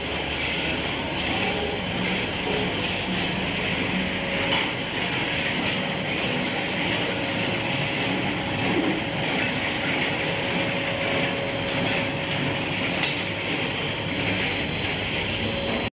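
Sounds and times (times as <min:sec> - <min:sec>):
conveyor mechanical rattle: 0:00.0 - 0:15.9.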